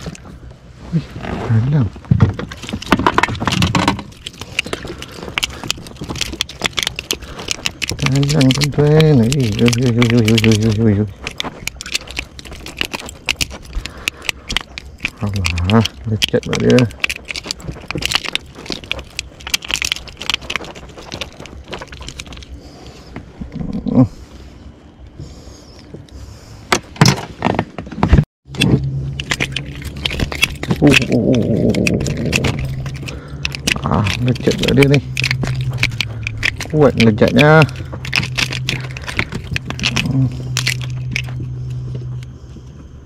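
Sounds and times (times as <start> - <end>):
fishing tackle clicks and rattles: 0.0 - 0.3, 2.3 - 22.8, 28.5 - 42.4.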